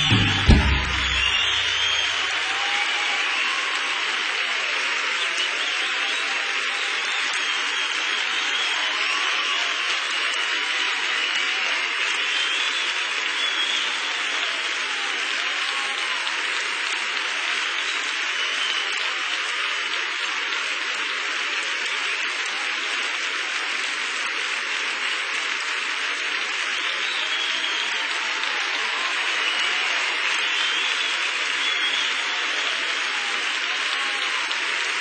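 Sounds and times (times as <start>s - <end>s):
large audience applauding: 0.0s - 35.0s.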